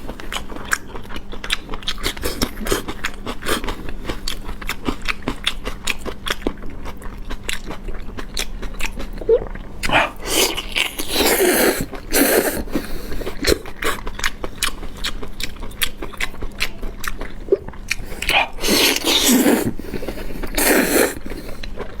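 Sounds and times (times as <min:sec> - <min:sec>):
wet chewing sounds: 0:00.0 - 0:22.0.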